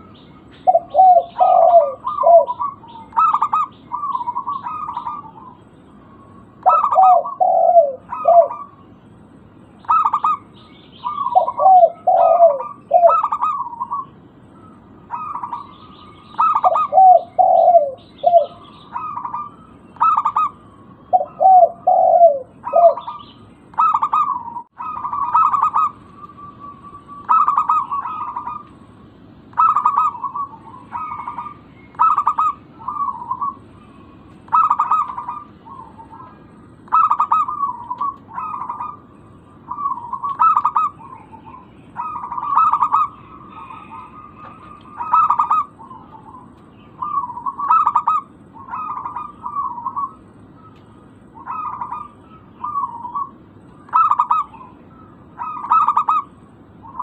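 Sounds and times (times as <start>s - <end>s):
dove cooing: 0.0s - 9.2s, 9.8s - 57.0s.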